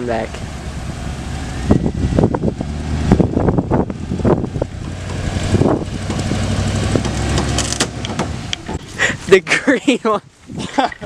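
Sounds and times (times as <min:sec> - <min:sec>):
vehicle engine under load: 0:00.0 - 0:09.5.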